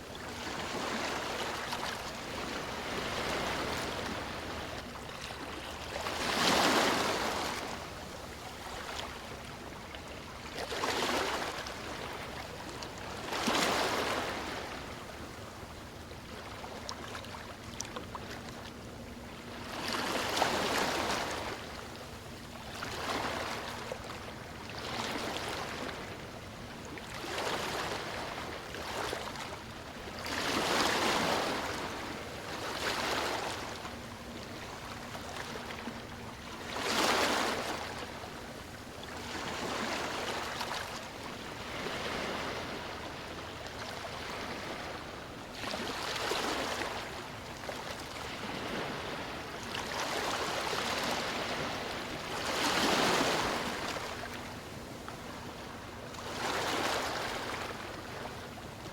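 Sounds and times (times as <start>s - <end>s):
sea waves breaking on a beach: 0.0s - 58.9s.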